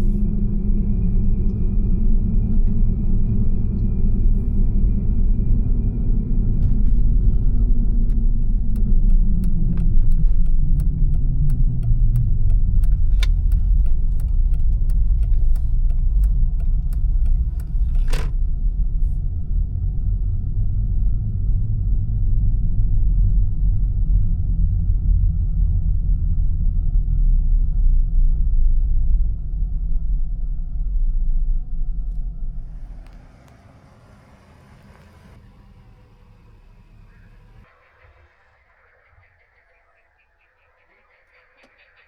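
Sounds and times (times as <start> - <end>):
vehicle engine low rumble: 0.0 - 42.0.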